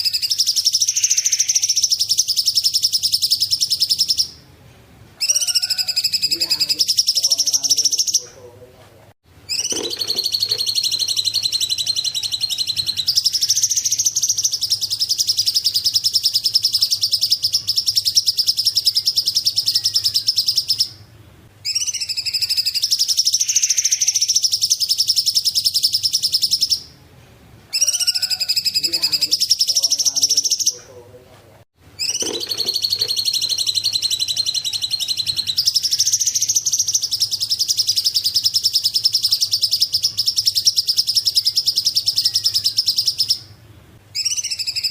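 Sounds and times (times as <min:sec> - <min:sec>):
songbird chattering song: 0:00.0 - 0:04.4, 0:05.2 - 0:08.6, 0:09.5 - 0:27.0, 0:27.7 - 0:31.0, 0:32.0 - 0:44.9.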